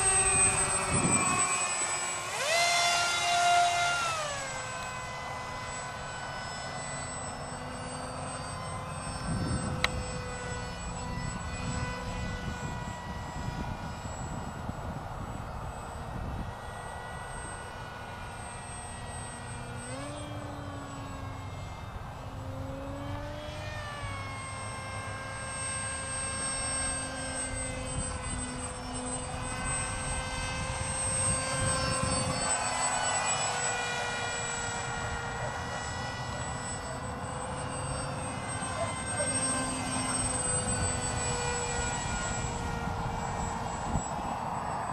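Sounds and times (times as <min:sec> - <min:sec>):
electric motor whine: 0:00.0 - 0:44.9.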